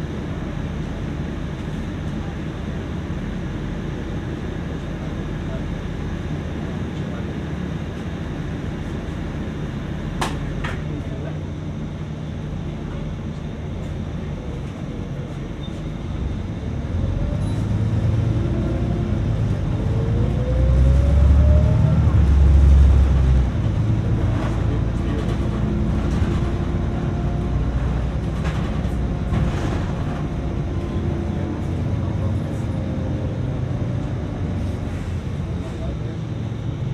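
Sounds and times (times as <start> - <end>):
bus engine and road rumble: 0.0 - 36.9.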